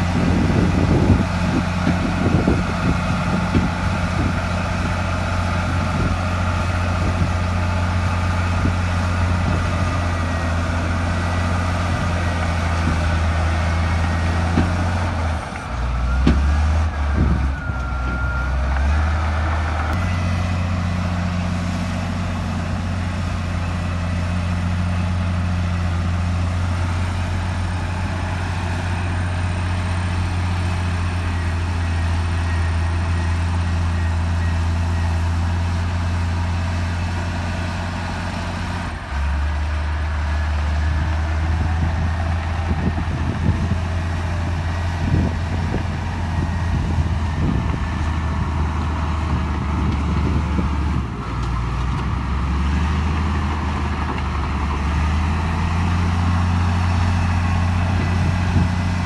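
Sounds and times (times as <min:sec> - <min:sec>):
heavy diesel machinery engine drone: 0:00.0 - 0:59.0.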